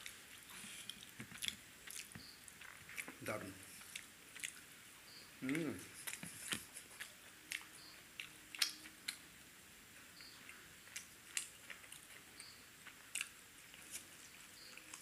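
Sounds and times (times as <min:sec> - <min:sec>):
person chewing food: 0:00.0 - 0:04.7, 0:05.4 - 0:09.3, 0:10.2 - 0:15.0.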